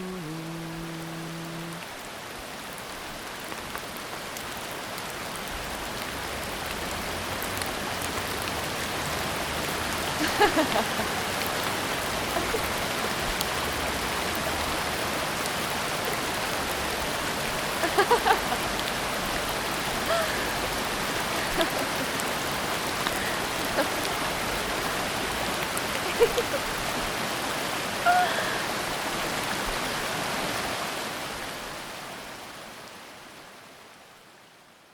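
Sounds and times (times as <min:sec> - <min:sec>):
rushing water: 0:00.0 - 0:34.9.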